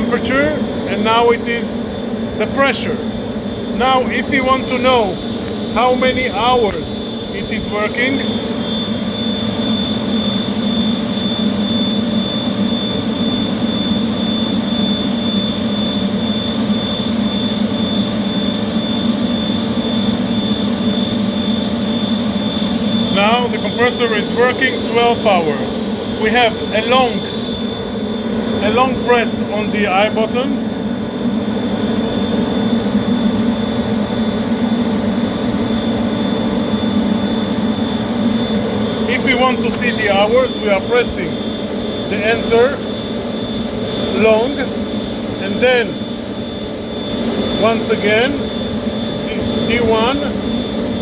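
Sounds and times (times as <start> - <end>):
air compressor running: 0.0 - 51.0.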